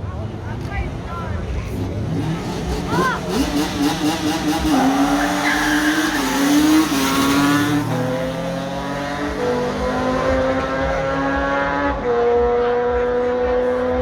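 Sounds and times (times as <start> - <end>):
car engine accelerating: 0.1 - 14.0.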